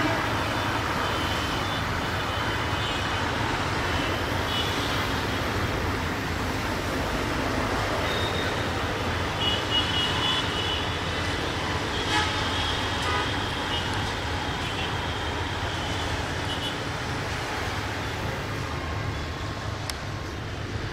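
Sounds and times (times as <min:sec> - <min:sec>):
rumble of vehicles: 0:00.0 - 0:20.9.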